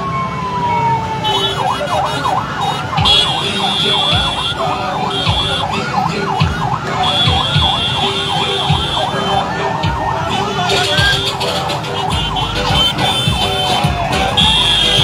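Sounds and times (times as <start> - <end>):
crowd noise: 0.0 - 15.0
vehicle siren yelping: 0.0 - 15.0.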